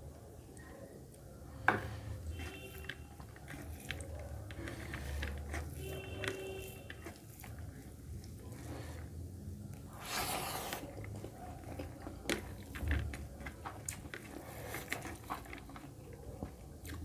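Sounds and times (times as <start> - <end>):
wet chewing and squishing: 2.3 - 17.0.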